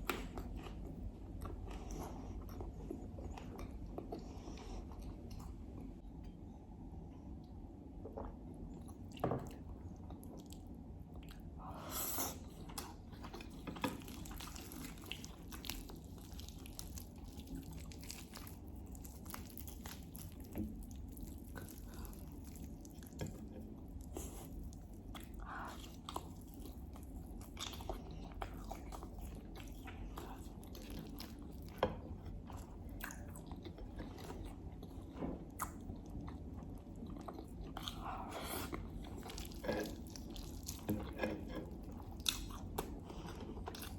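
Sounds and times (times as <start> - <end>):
faint low hum: 0.0 - 43.9.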